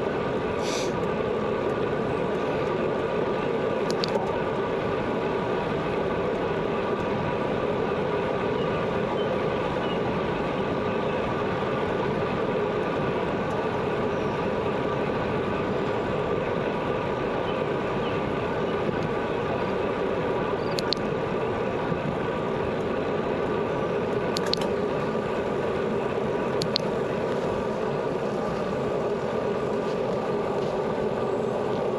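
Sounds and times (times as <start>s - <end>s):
bicycle rolling hum: 0.0s - 31.9s.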